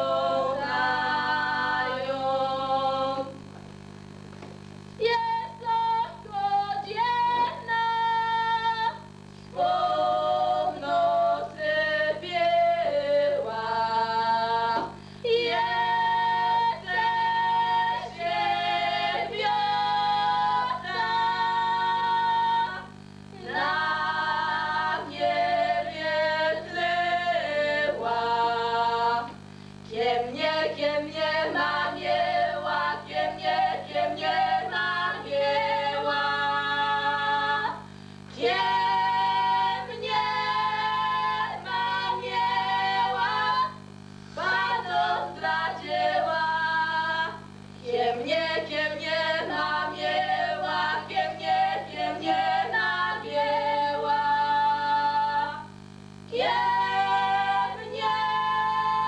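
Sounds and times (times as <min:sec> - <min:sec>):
steady low hum: 0:00.0 - 0:59.0
women singing unaccompanied: 0:00.0 - 0:59.0.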